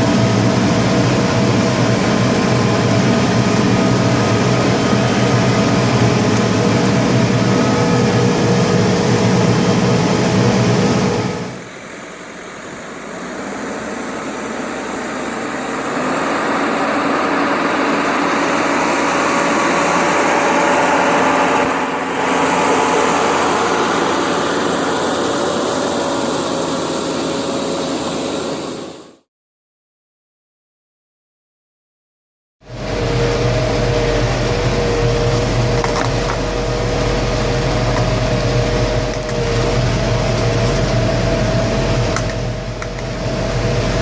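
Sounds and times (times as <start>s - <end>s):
tractor diesel engine under load: 0.0s - 29.2s, 32.7s - 44.0s.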